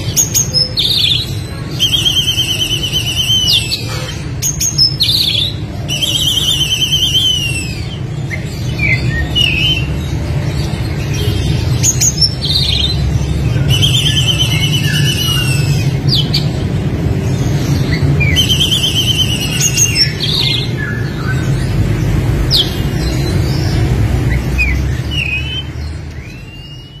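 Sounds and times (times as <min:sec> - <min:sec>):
bird singing varied song: 0:00.0 - 0:27.0.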